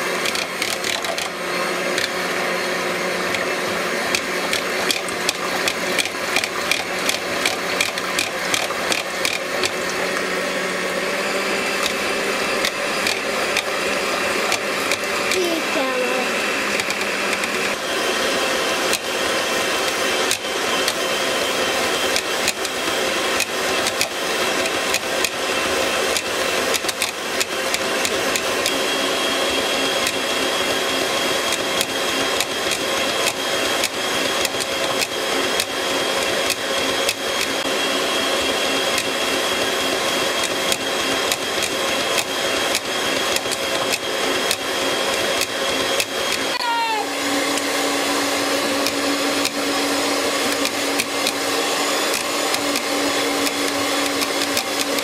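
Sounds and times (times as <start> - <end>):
electric mixer whirring: 0.0 - 55.0.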